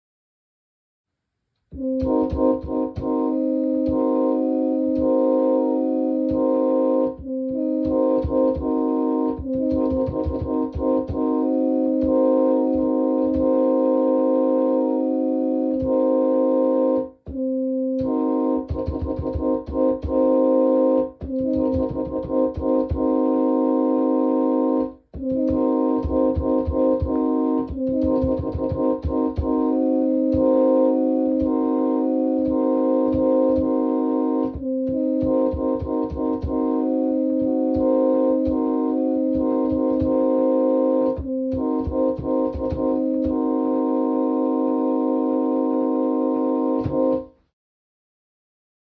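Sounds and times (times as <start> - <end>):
clicks at note changes: 1.7 - 47.4
train horn playing melody: 1.7 - 47.4.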